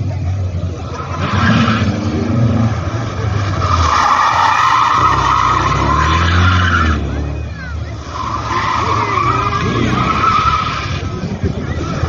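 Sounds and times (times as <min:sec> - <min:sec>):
car engine revving: 0:00.0 - 0:12.0
tyres squealing: 0:00.8 - 0:12.0.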